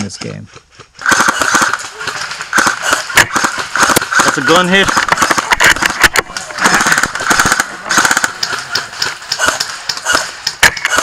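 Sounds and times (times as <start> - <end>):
airsoft gunfire: 1.0 - 11.0.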